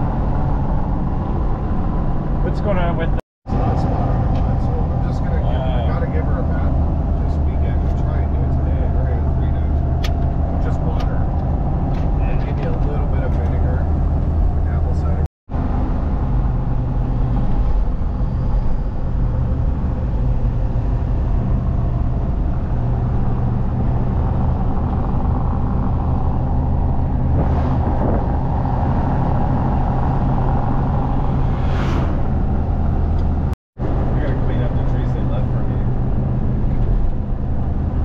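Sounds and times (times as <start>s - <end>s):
vehicle engine and road drone: 0.0s - 38.0s.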